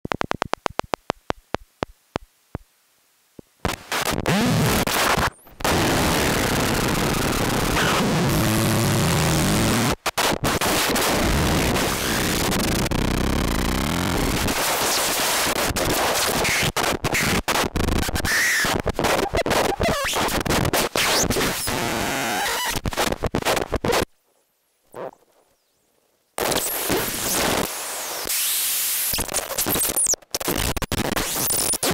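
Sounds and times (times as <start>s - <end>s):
harsh stuttering electronic noise: 3.7s - 24.1s, 26.4s - 31.9s.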